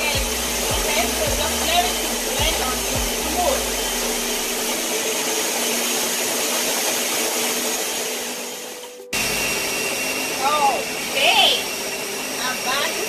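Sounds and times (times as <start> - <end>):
blender running: 0.0 - 13.0.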